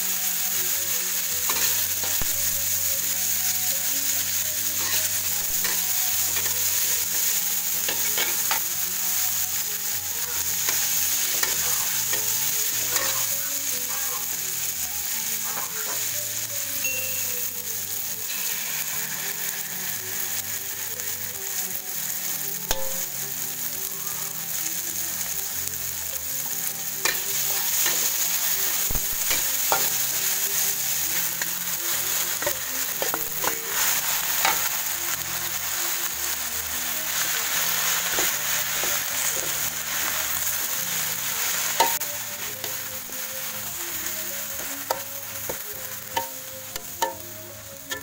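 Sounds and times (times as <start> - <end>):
food sizzling in oil: 0.0 - 48.0.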